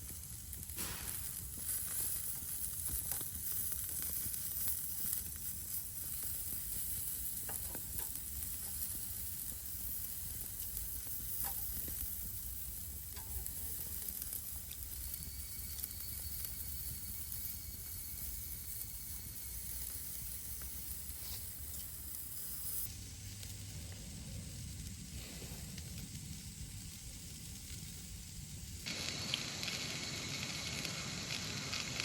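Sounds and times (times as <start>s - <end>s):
food sizzling in a frying pan: 0.0s - 23.7s, 24.5s - 32.0s.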